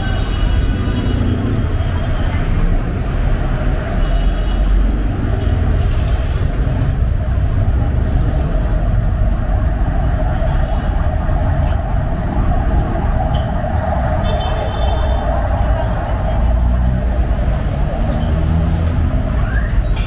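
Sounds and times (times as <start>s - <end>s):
road traffic engines: 0.0s - 20.0s.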